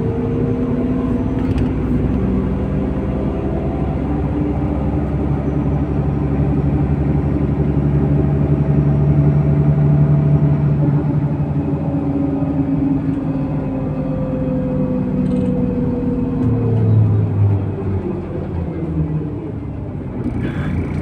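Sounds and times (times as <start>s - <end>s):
bus diesel engine running: 0.0s - 21.0s
road rumble: 0.0s - 21.0s.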